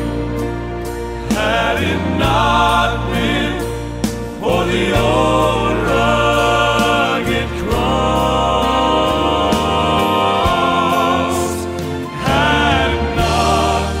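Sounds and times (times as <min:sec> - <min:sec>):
instrumental accompaniment: 0:00.0 - 0:14.0
sustained low bass notes: 0:00.0 - 0:14.0
male vocal quartet singing: 0:01.2 - 0:14.0.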